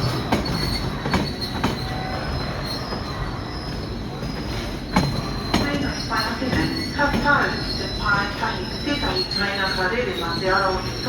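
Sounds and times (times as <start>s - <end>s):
train wagons rumbling past: 0.0s - 11.0s
high-pitched wheel squeal: 0.4s - 11.0s.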